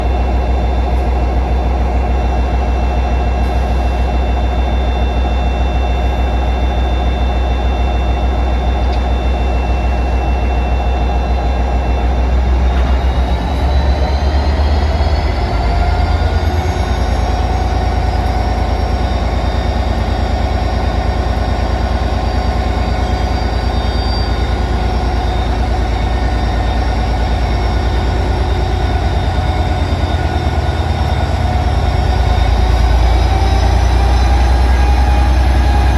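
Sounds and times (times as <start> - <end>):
diesel locomotive engines rumbling: 0.0 - 35.9.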